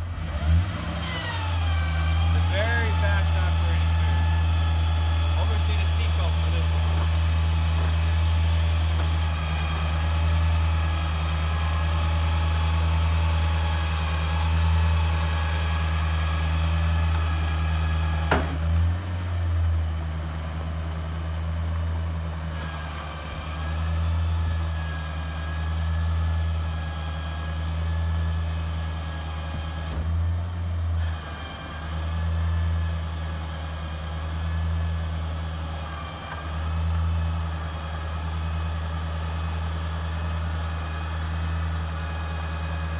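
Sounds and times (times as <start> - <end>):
truck engine running: 0.0 - 42.9.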